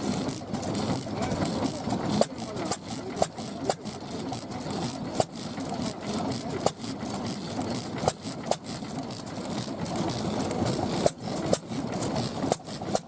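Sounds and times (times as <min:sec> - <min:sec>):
old engine clattering and popping: 0:00.0 - 0:13.0.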